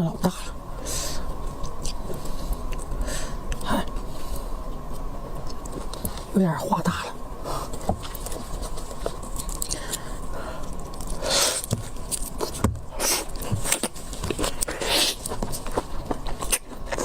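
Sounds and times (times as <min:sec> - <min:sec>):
biting and chewing food: 0:01.1 - 0:06.3, 0:07.6 - 0:17.0.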